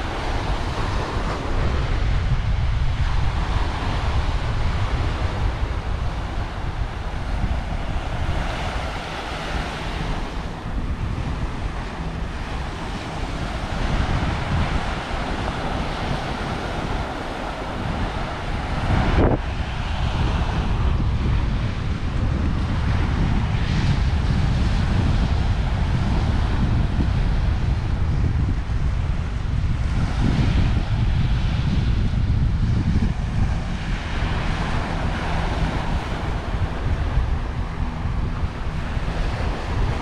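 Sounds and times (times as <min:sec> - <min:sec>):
small waves breaking on shore: 0:00.0 - 0:32.0, 0:32.6 - 0:40.0
wind buffeting microphone: 0:00.0 - 0:40.0.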